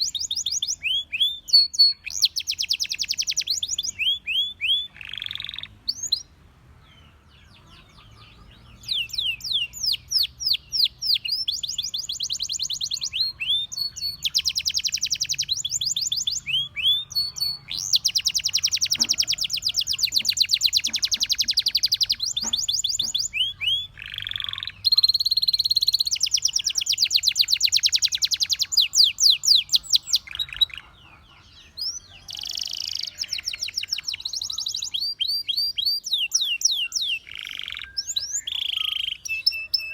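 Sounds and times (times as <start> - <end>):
canary singing high trills: 0.0 - 6.4, 7.0 - 39.9.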